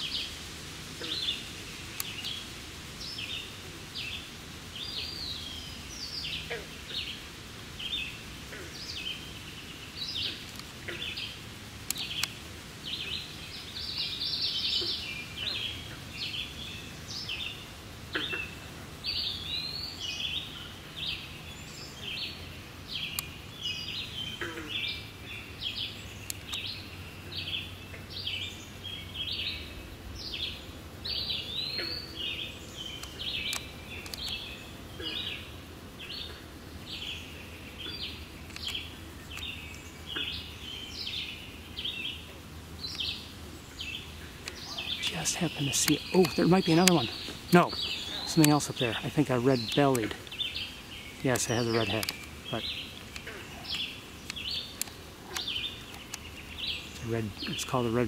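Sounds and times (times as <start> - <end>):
songbirds chirping and whistling: 0.0 - 58.0.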